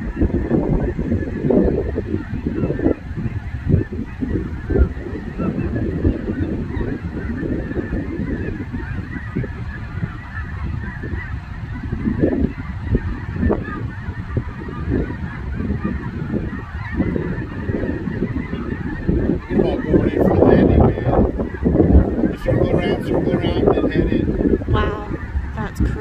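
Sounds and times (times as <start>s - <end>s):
geese honking: 0.0s - 26.0s.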